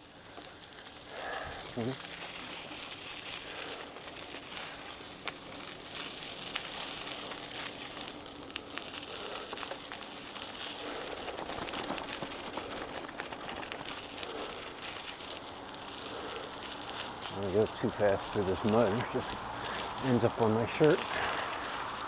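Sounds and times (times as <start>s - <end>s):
bicycle tyres rolling through mud: 0.0s - 22.0s.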